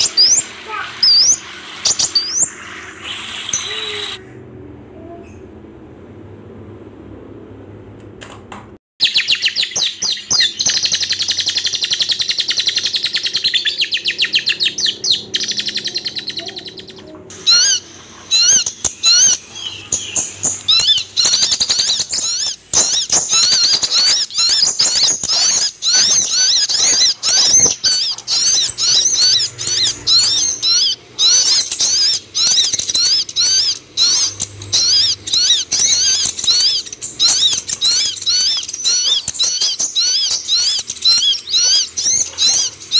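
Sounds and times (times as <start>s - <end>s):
rapid high bird chirps: 0.0s - 4.2s, 9.0s - 42.9s.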